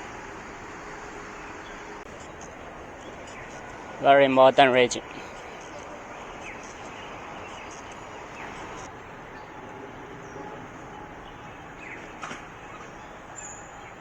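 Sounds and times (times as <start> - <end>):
traffic hum: 0.0 - 14.0.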